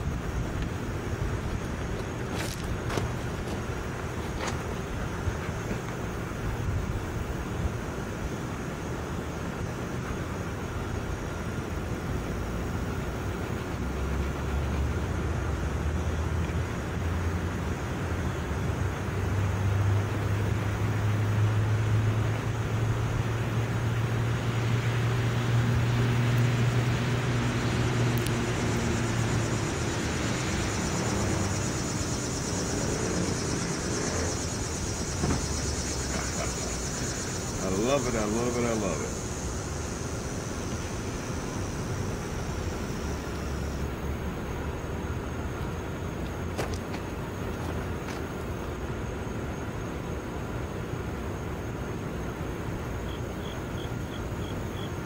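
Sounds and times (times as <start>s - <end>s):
low engine drone: 0.0s - 51.2s
outdoor background noise: 0.0s - 55.0s.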